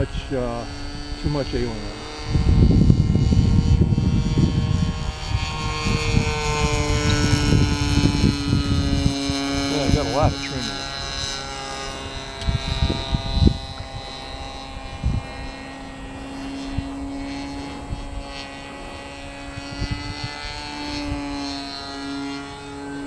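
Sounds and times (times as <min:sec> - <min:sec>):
model airplane engine droning: 0:00.0 - 0:23.0.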